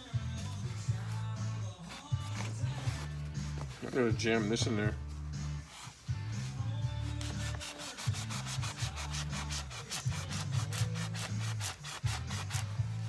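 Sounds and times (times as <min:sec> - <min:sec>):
quick rubbing strokes: 0:00.4 - 0:13.0.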